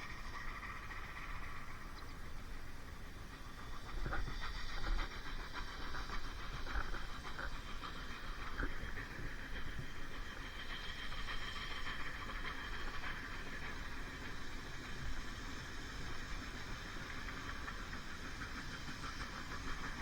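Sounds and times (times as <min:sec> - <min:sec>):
steam locomotive hiss: 0:00.0 - 0:20.0.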